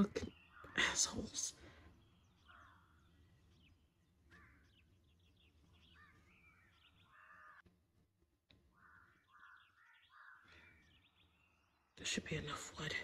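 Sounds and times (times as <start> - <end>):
outdoor background ambience: 0.0 - 13.0
faint crows cawing: 0.3 - 12.0.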